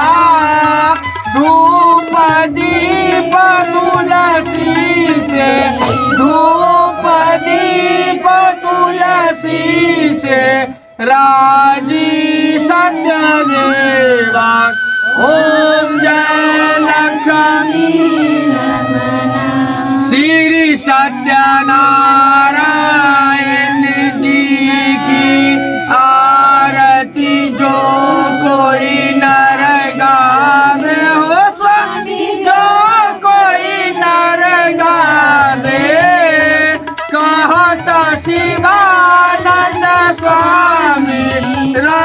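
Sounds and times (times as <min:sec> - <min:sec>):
instrumental accompaniment: 0:00.0 - 0:42.0
person singing devotional song: 0:00.0 - 0:42.0.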